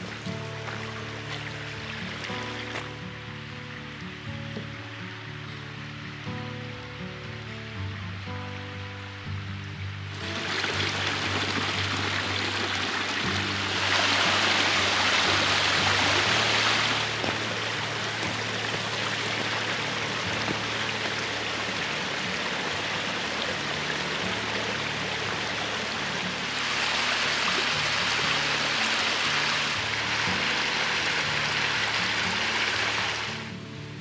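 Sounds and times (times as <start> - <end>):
rushing stream water: 0.0 - 9.2, 9.9 - 34.0
soft background music: 0.0 - 34.0.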